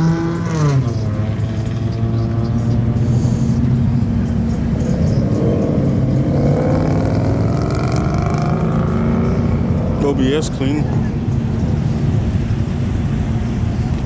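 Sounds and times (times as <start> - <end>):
truck engine running: 0.9 - 14.0.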